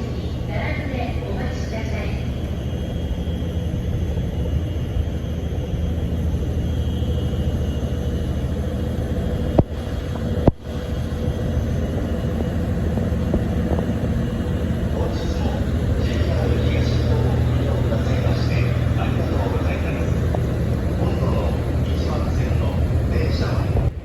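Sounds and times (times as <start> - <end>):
faint steady hum: 0.0 - 24.0
train rumbling past: 0.0 - 24.0.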